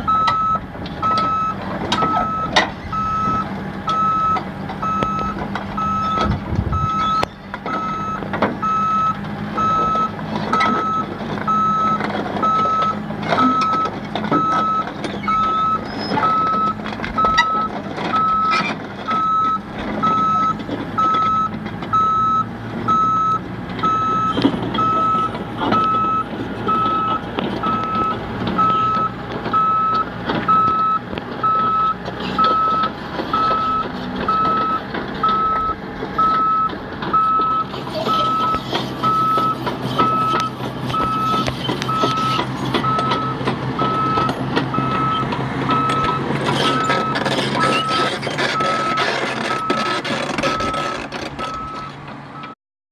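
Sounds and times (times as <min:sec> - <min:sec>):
diesel engine running: 0:00.0 - 0:52.6
backup alarm beeping: 0:00.1 - 0:48.0.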